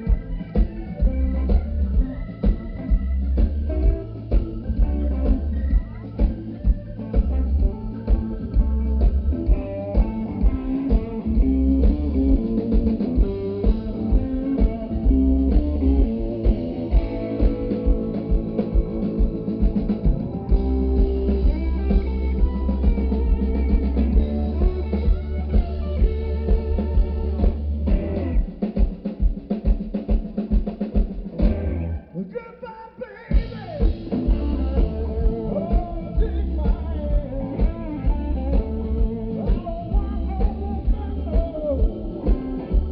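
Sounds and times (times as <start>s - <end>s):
bass: 0.0s - 28.7s, 31.2s - 32.2s, 33.3s - 42.9s
drum kit beat: 0.0s - 32.0s, 33.2s - 42.9s
guitar: 0.0s - 42.9s.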